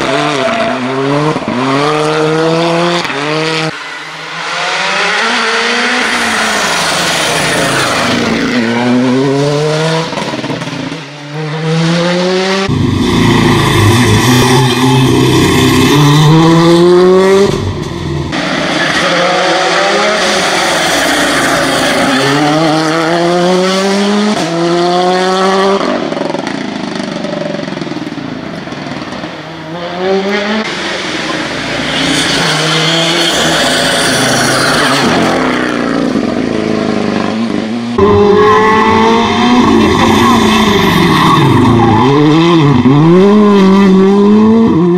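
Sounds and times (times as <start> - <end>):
rally car engine accelerating: 0.0 - 17.7, 18.3 - 26.6, 29.0 - 44.9.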